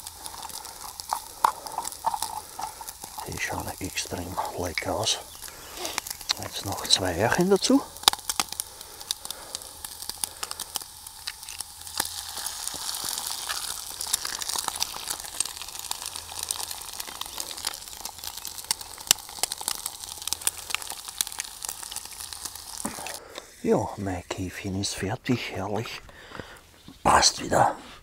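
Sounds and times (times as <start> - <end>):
eggs sizzling in a pan: 0.0 - 25.2.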